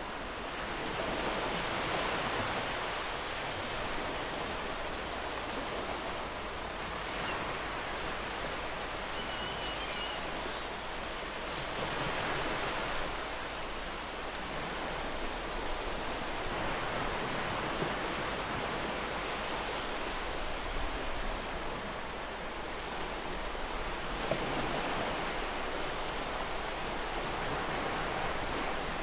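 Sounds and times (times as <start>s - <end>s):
waves breaking on shore: 0.0s - 29.0s.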